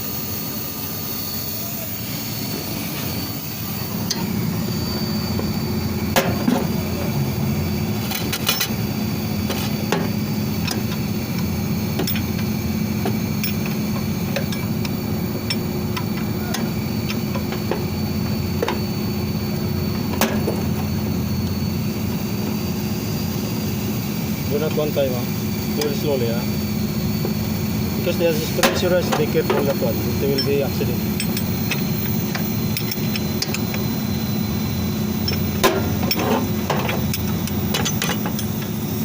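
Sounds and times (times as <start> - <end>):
machinery drone: 0.0 - 39.0.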